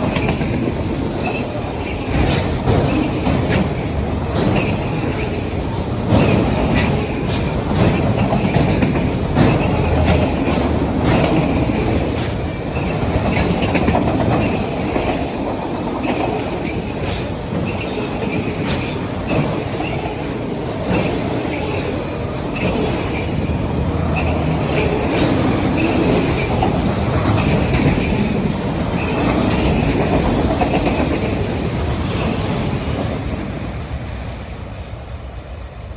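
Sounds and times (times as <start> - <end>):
train wheels clacking over rail joints: 0.0 - 34.0.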